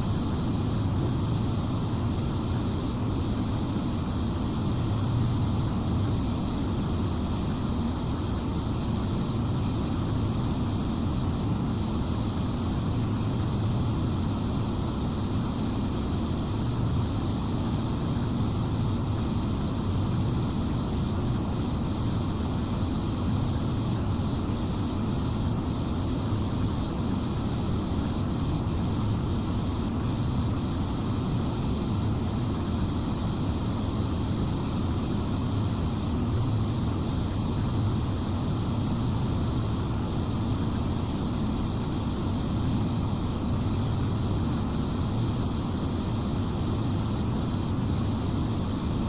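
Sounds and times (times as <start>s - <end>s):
cooling fans droning: 0.0s - 49.0s.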